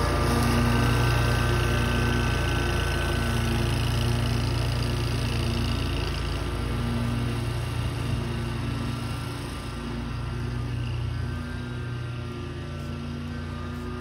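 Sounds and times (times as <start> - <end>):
riding mower engine running: 0.0 - 14.0.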